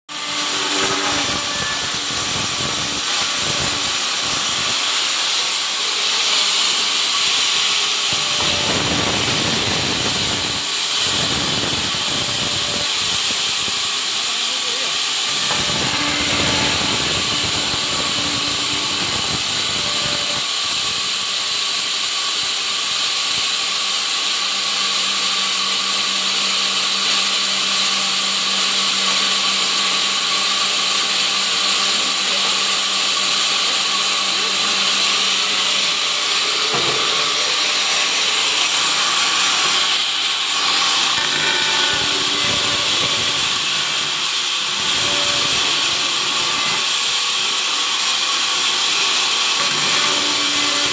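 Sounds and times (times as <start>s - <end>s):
sawmill sawing through wood: 0.1s - 50.9s.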